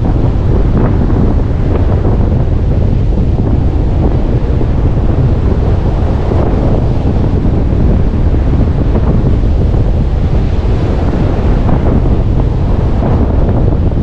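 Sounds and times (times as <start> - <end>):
surf breaking on beach: 0.0 - 14.0
wind buffeting microphone: 0.0 - 14.0.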